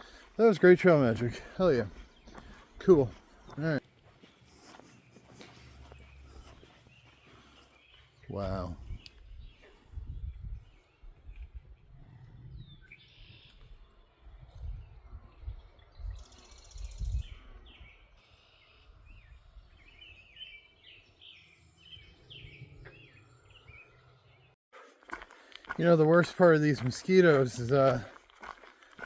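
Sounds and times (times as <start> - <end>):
birds calling: 0.0 - 14.3, 15.0 - 29.0.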